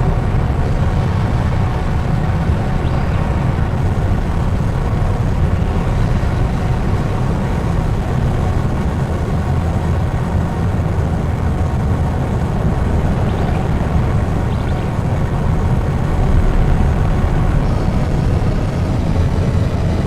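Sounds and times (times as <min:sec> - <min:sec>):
noise drone music: 0:00.0 - 0:20.0.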